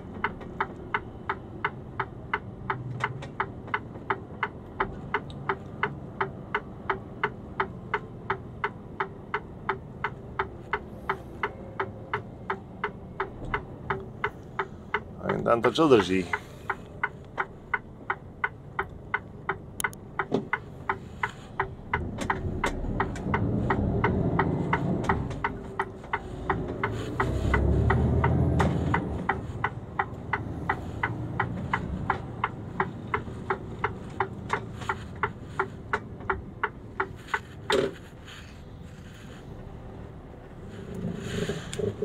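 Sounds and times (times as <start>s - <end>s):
diesel engine rumbling: 0.0s - 42.0s
turn signal ticking: 0.0s - 42.0s.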